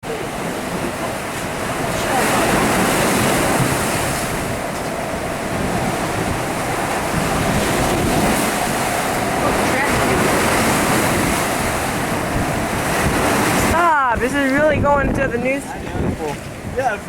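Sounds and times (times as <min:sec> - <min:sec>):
surf breaking and rushing: 0:00.0 - 0:17.0
wind buffeting microphone: 0:00.0 - 0:17.0.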